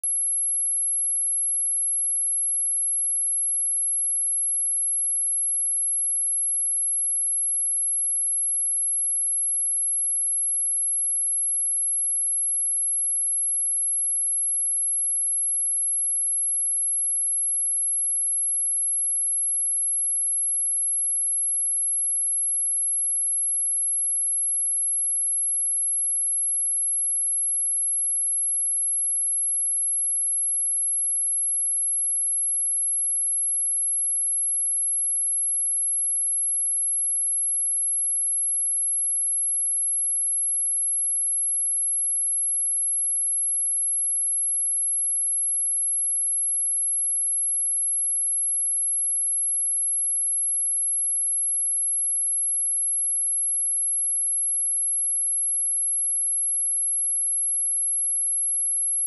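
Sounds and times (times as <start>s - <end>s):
high-pitched sine-wave test tone: 0.0s - 59.0s.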